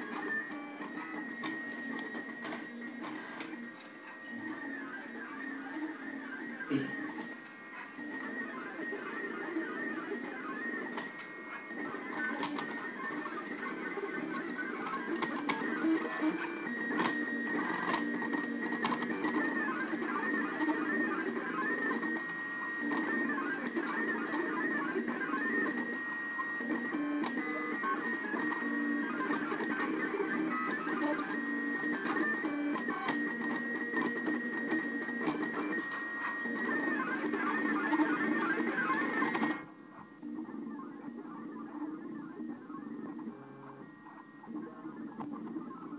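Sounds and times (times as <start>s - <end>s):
stepper motors whining: 0.0s - 45.9s.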